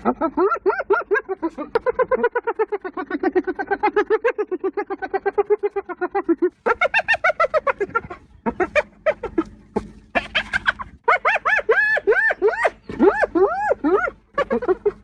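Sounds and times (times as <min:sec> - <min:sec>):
hyena giggling: 0:00.0 - 0:15.0.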